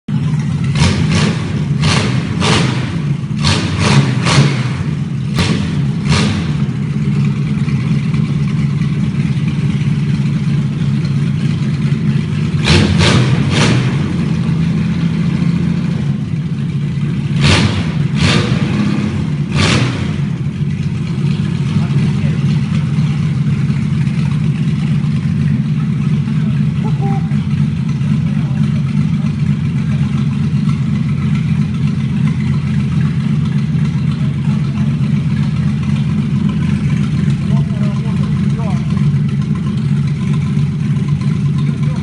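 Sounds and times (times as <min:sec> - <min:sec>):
engine running steadily: 0:00.1 - 0:42.0.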